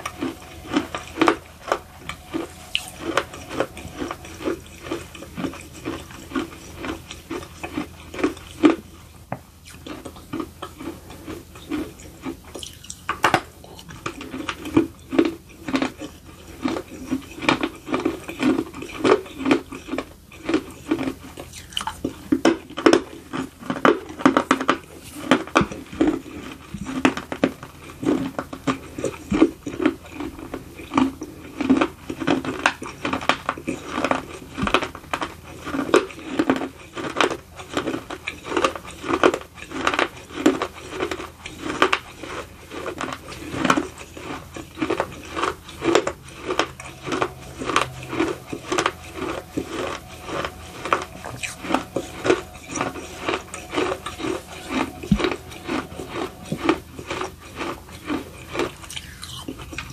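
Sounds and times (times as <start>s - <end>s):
gritty crunchy chewing: 0.0s - 59.9s.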